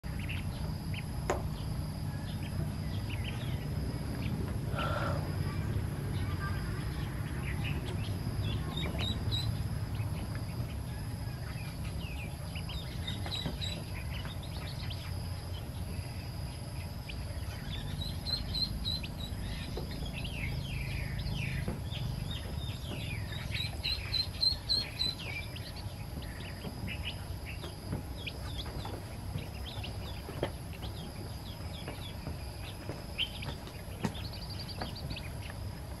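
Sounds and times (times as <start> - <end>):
low background rumble: 0.0 - 36.0
chicks and ducklings peeping: 0.1 - 36.0.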